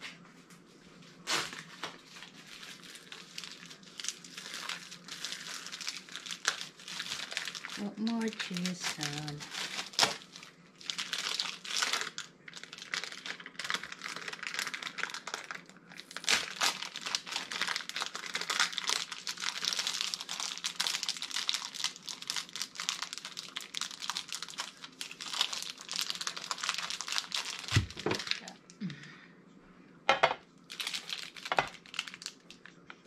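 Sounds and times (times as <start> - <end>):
plastic wrapper crinkling: 1.2 - 28.7, 30.6 - 33.0.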